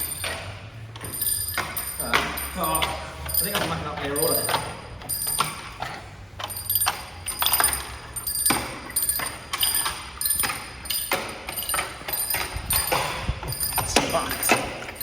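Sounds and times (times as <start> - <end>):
bells ringing: 1.0 - 5.6, 6.4 - 15.0.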